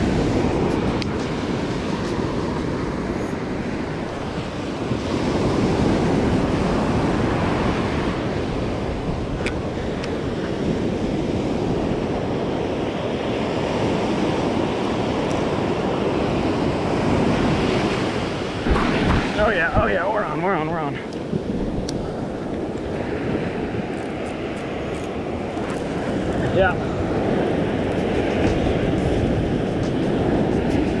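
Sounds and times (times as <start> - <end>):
surf breaking on beach: 0.0 - 31.0
wind rumbling on microphone: 0.0 - 31.0.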